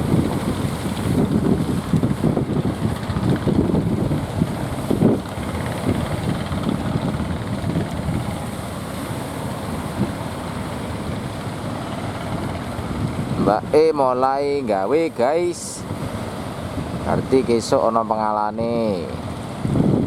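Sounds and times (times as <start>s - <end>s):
strong wind buffeting microphone: 0.0s - 18.0s, 18.6s - 20.0s.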